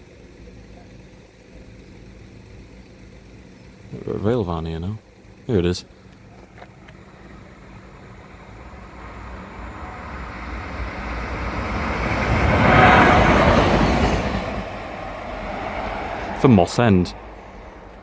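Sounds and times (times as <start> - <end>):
train passing rumble: 0.0 - 18.0.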